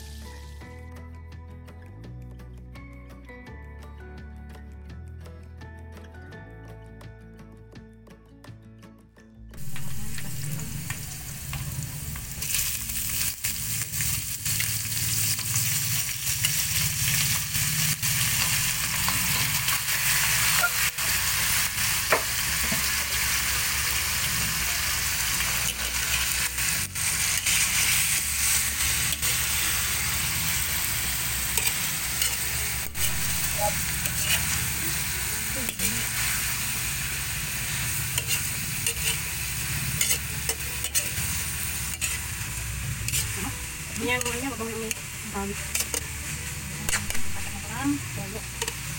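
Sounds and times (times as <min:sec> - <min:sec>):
food sizzling in hot oil: 0:09.6 - 0:48.9
utensils scraping a metal wok: 0:09.6 - 0:48.9.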